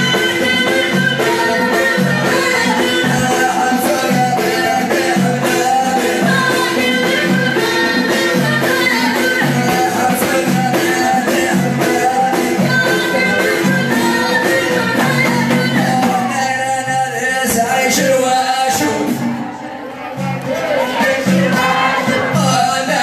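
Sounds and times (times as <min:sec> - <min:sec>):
frame drums beating: 0:00.0 - 0:19.4, 0:20.1 - 0:23.0
men singing: 0:00.0 - 0:23.0.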